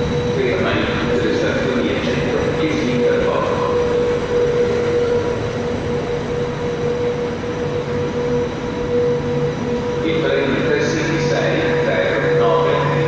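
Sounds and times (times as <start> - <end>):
constant whining tone: 0.0 - 13.0
train wheels rumbling on rails: 0.0 - 13.0.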